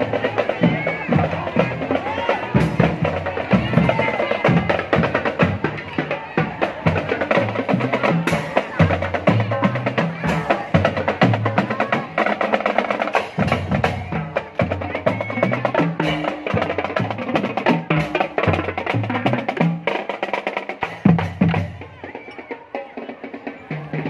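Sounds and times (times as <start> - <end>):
marching drum band playing: 0.0 - 24.0.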